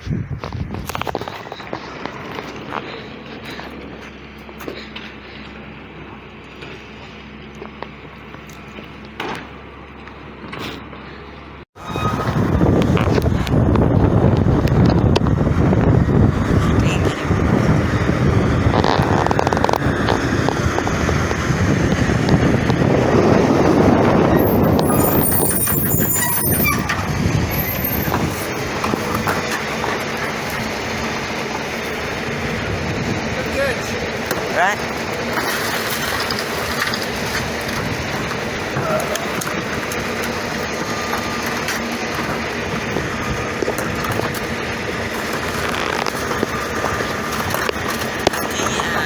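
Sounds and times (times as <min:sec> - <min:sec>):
wind buffeting microphone: 0:00.0 - 0:04.6, 0:11.8 - 0:35.3, 0:36.2 - 0:49.0
diesel engine running: 0:00.0 - 0:49.0.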